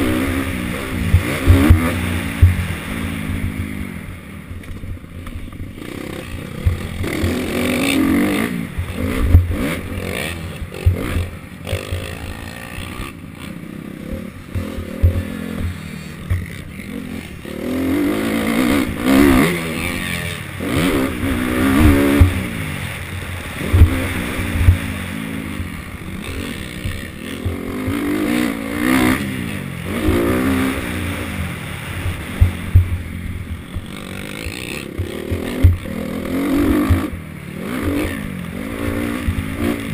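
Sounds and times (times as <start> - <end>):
dirt bikes revving: 0.0 - 39.9.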